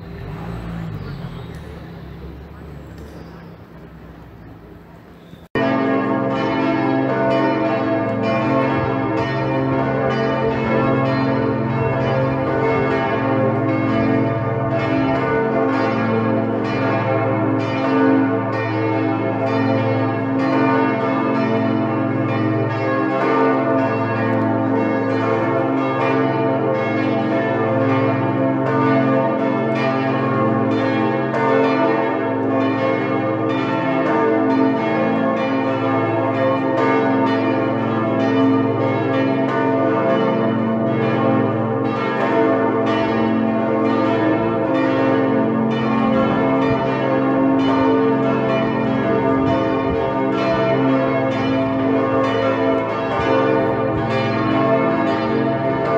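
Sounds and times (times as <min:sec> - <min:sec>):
church bells pealing: 0:00.0 - 0:55.9.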